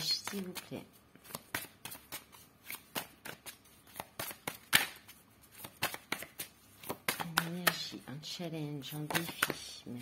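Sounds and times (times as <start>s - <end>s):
cards being shuffled: 0.0s - 8.0s, 8.9s - 9.6s.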